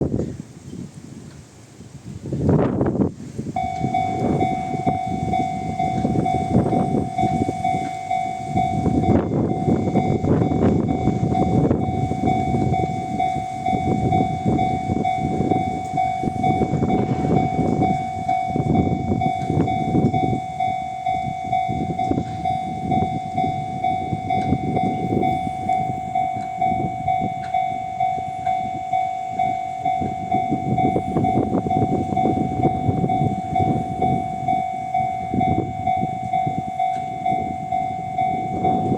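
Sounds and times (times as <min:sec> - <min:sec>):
freight train rumbling past: 0:00.0 - 0:38.9
level crossing alarm tone: 0:03.5 - 0:38.9.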